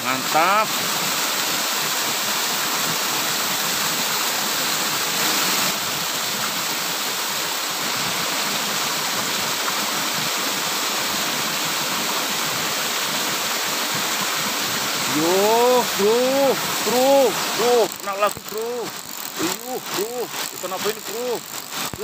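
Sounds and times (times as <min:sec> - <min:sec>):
water pouring into a pool: 0:00.0 - 0:22.0.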